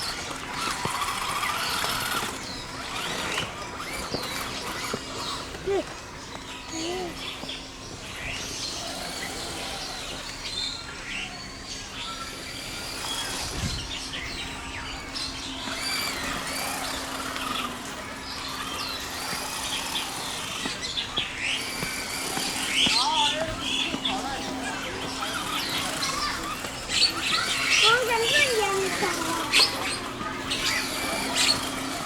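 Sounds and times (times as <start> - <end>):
small birds chirping: 0.0 - 32.0
steady low hum: 0.0 - 32.0.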